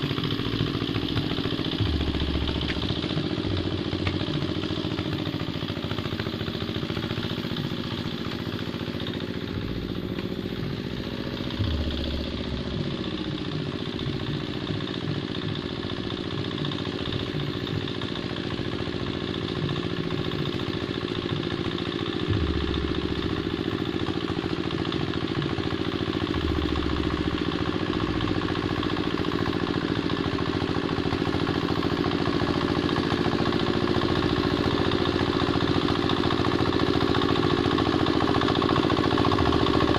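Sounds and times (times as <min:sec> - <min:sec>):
hand tractor engine running: 0:00.0 - 0:39.9.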